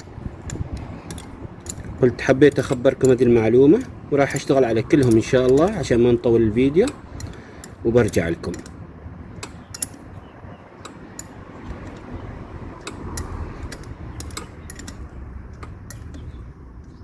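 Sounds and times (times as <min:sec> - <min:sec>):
small metal parts clicking: 0:00.4 - 0:10.2, 0:10.8 - 0:17.0.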